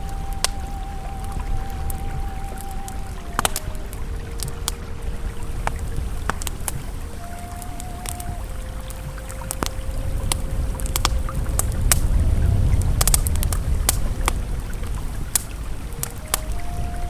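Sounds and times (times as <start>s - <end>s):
campfire crackling and popping: 0.0s - 17.0s
river flowing: 0.0s - 17.0s.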